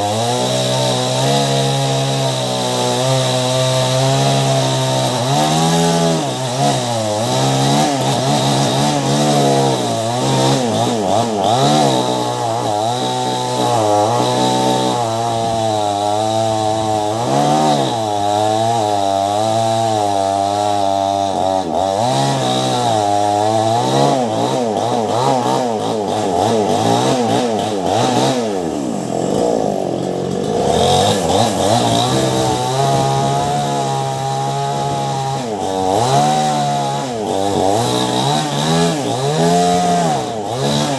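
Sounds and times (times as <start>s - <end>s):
chainsaw cutting through wood: 0.0s - 40.9s.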